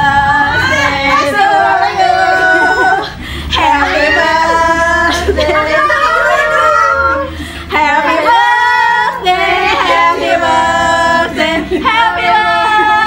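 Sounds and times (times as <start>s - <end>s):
women singing: 0.0s - 13.0s.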